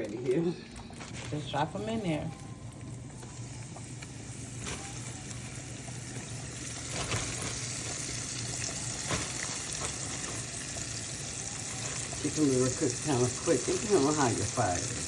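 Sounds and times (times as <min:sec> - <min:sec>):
frying in hot grease: 0:01.1 - 0:15.0.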